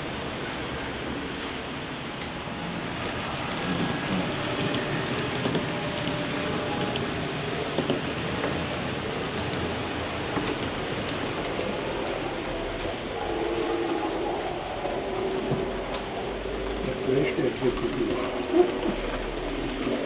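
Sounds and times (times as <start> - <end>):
model train wheels whirring on rails: 0.0 - 20.0
rail joint clicks: 2.1 - 20.0.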